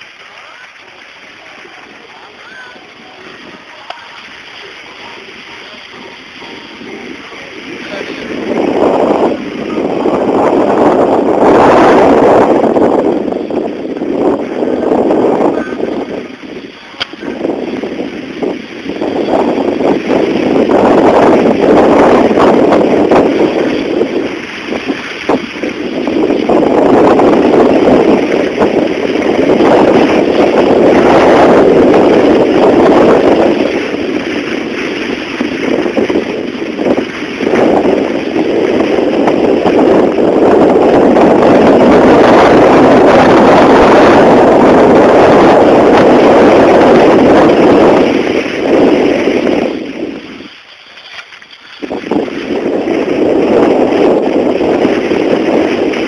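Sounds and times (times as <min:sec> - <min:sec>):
skis sliding over snow: 0:00.0 - 0:56.0
wind buffeting the microphone: 0:00.0 - 0:56.0.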